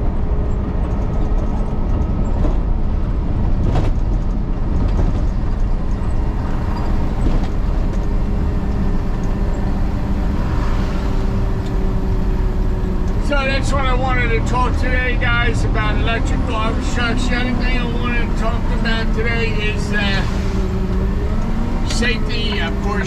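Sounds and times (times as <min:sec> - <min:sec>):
garbage truck engine rumbling: 0:00.0 - 0:23.0.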